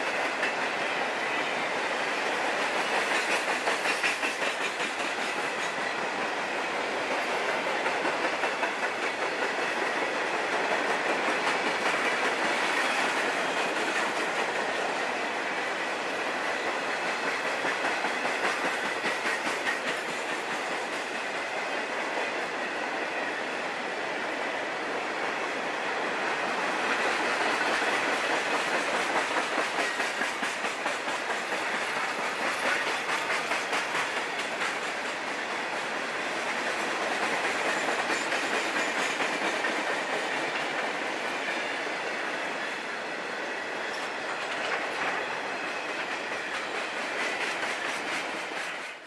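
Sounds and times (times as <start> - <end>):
clickety-clack over rail joints: 0.0 - 49.0
freight train wheels rumbling on rail: 0.0 - 49.0.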